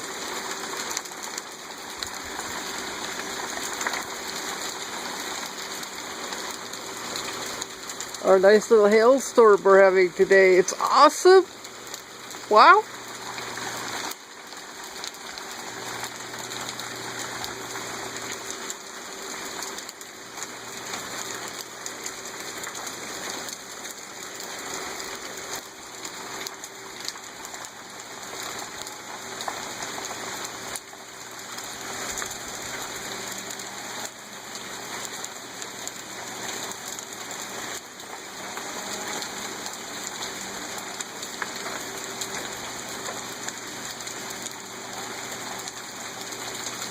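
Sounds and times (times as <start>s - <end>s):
hail hitting the ground: 0.0s - 46.9s.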